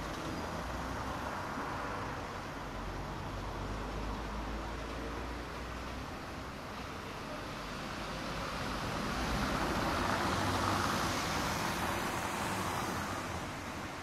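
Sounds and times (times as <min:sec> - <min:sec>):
background traffic: 0:00.0 - 0:14.0
passing vehicle: 0:00.0 - 0:14.0.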